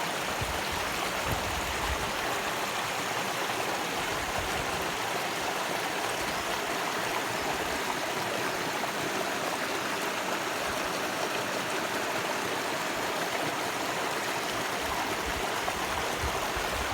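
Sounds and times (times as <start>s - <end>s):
stream flowing over rocks: 0.0s - 16.9s.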